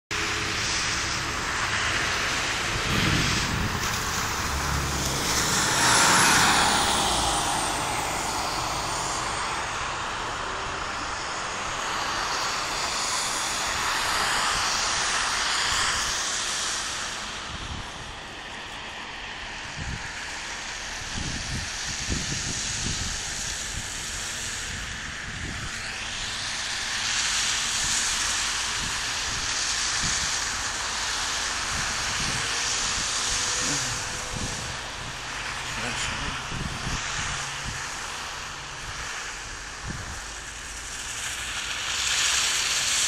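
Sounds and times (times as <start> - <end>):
tyres hissing on wet road: 0.1 - 43.0.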